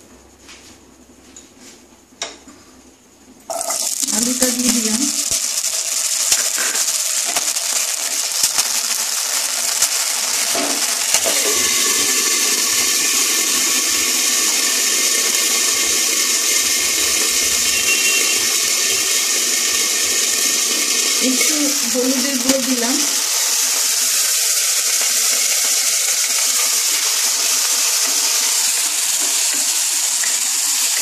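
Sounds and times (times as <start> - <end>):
potatoes sizzling in hot oil: 3.5 - 31.0.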